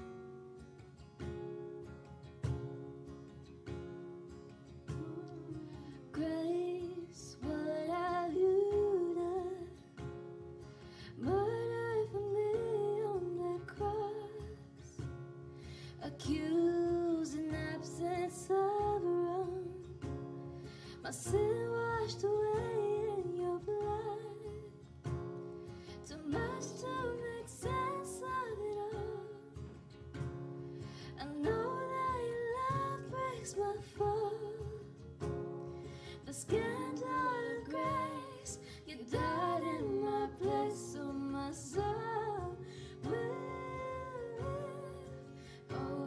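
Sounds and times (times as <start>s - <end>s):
acoustic guitar: 0.0s - 46.0s
woman singing: 4.7s - 10.4s, 11.0s - 46.0s.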